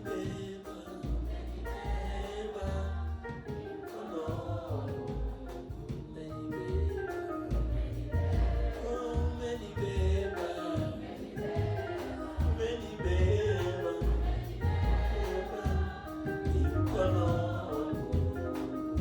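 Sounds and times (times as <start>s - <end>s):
drums with steady bass beat: 0.0s - 19.0s
gospel singing: 0.0s - 19.0s
keyboard: 0.0s - 19.0s.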